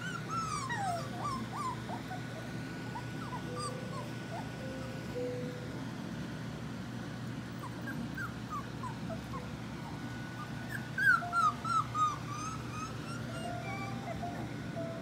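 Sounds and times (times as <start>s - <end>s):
puppies whimpering: 0.0s - 5.1s, 7.5s - 15.0s.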